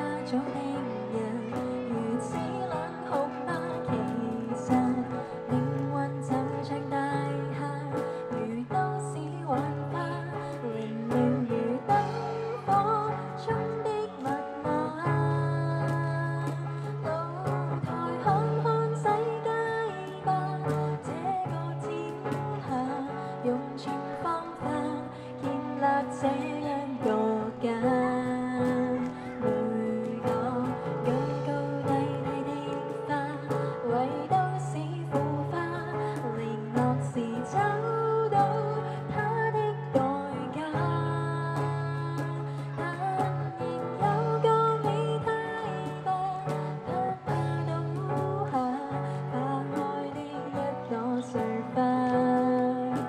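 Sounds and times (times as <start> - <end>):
woman singing ballad: 0.0 - 53.0.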